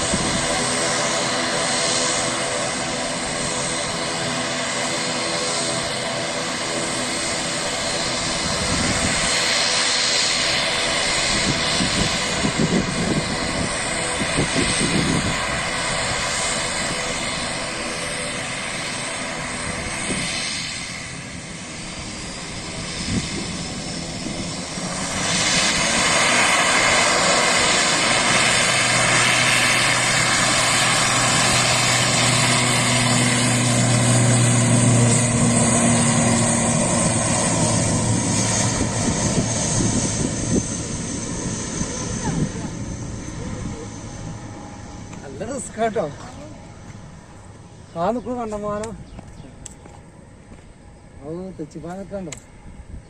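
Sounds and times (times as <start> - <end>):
airliner engines roaring: 0.0 - 53.0.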